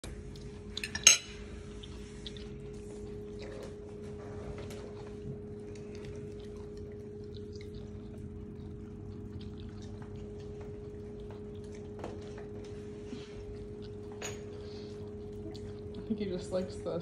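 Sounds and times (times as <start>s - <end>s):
steady low hum: 0.0s - 17.0s
puppy chewing: 1.6s - 16.7s.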